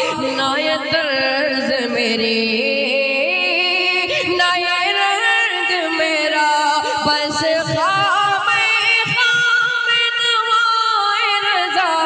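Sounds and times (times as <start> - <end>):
man singing devotional poem: 0.0 - 12.0.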